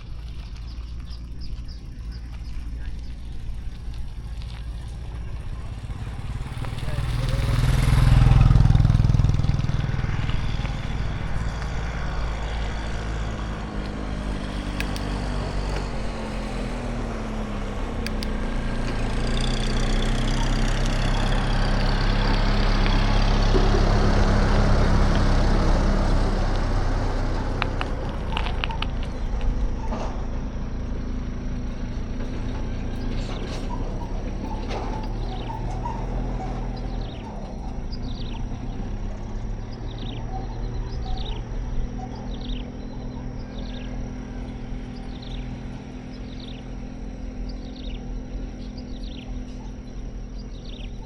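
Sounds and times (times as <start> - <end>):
low engine hum: 0.0 - 51.0
vehicle engines passing: 0.0 - 51.0.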